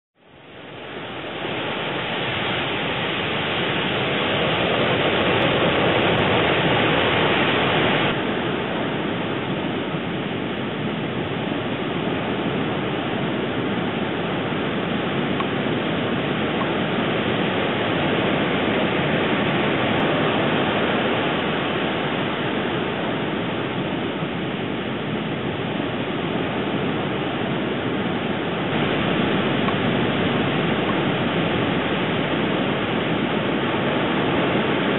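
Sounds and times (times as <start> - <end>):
ocean surf rushing: 0.2 - 34.9.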